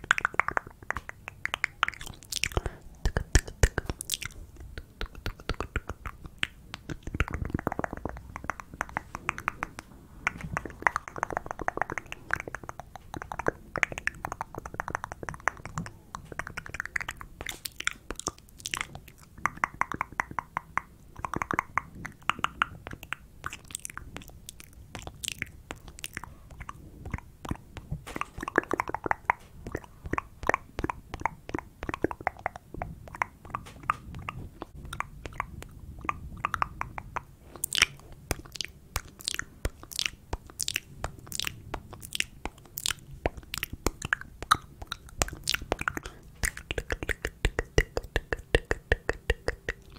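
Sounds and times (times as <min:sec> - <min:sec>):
tongue clicks: 0:00.0 - 0:49.9
wet lip smacks: 0:00.0 - 0:49.9.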